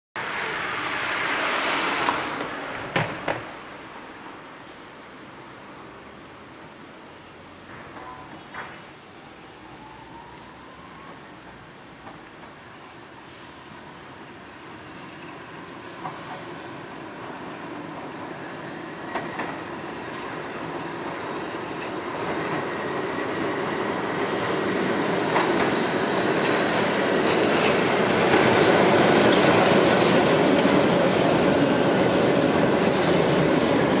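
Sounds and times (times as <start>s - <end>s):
tram passing on track: 0.2s - 34.0s.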